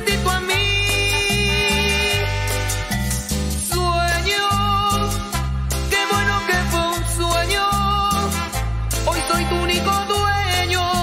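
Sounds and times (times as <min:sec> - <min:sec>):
bass line: 0:00.0 - 0:11.0
steady percussion: 0:00.0 - 0:11.0.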